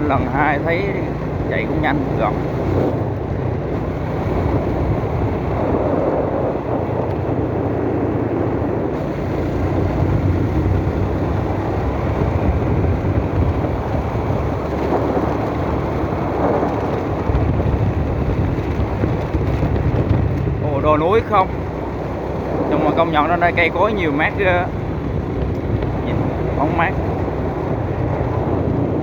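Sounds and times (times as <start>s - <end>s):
vehicle road and engine noise: 0.0s - 29.0s
wind rush on microphone: 0.0s - 29.0s.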